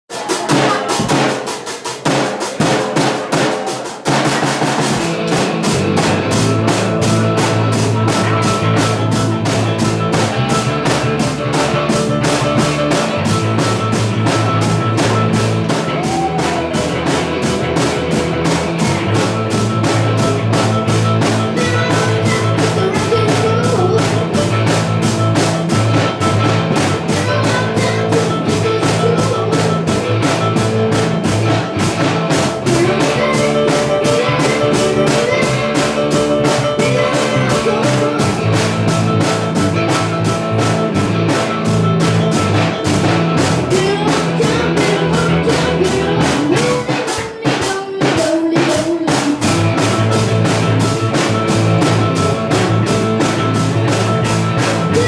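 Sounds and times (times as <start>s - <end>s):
drum kit: 0.1s - 55.0s
bass line: 2.1s - 47.2s, 49.2s - 55.0s
electric guitar: 4.2s - 55.0s.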